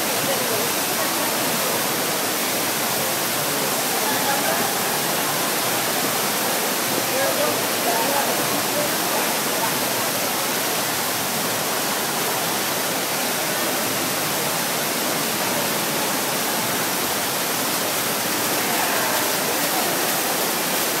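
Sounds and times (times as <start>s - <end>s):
indoor waterfall rushing: 0.0s - 21.0s.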